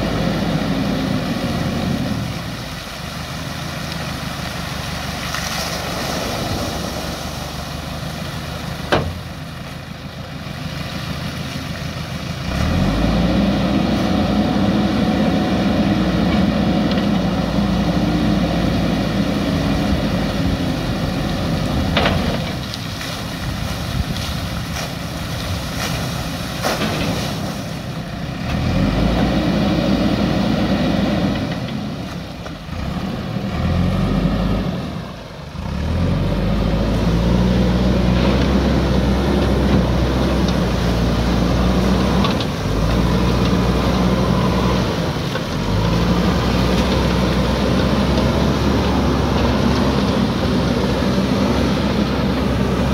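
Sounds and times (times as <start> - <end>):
water pouring and splashing: 0.0 - 34.1, 37.0 - 52.9
diesel engine running: 0.0 - 52.9.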